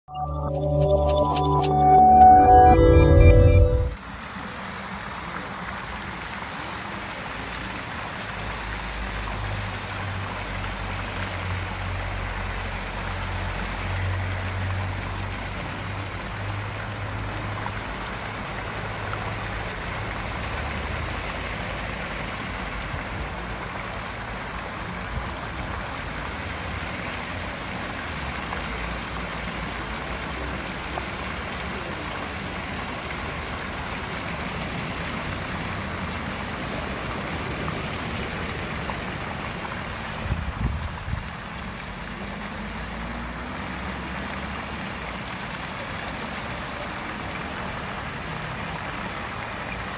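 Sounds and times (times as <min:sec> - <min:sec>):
fountain water splashing: 0:04.0 - 0:49.9.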